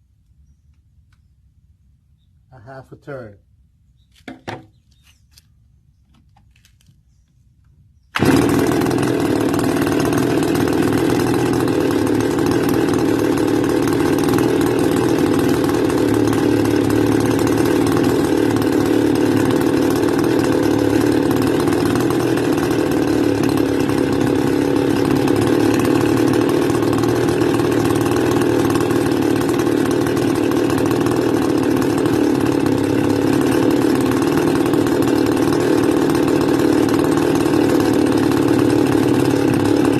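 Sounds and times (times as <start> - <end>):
brush cutter engine idling: 7.6 - 39.9.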